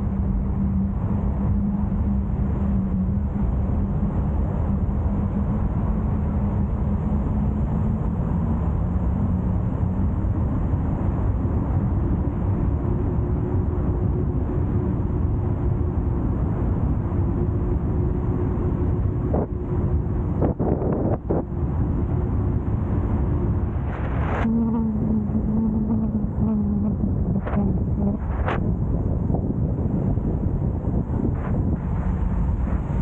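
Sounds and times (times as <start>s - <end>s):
car engine and tyre noise: 0.0s - 33.0s
rising hum: 0.0s - 33.0s.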